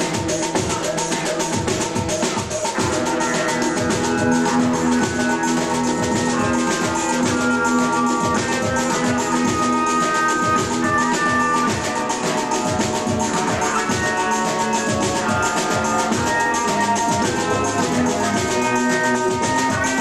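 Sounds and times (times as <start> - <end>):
drums and percussion: 0.0 - 20.0
fast-pulsing keyboard lines: 0.0 - 20.0.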